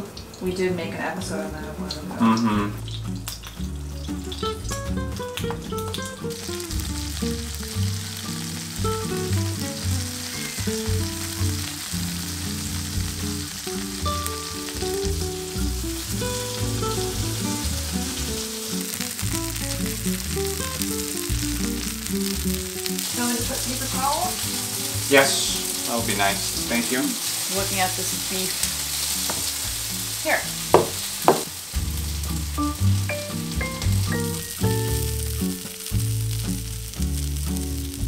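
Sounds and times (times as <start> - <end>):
fish fillets sizzling in oil: 0.0 - 38.0
background music with bass line: 1.5 - 38.0.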